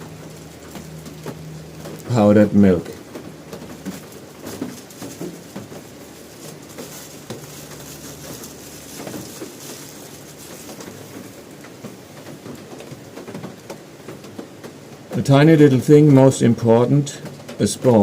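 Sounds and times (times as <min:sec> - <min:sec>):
rain pattering on a roof: 0:00.0 - 0:18.0.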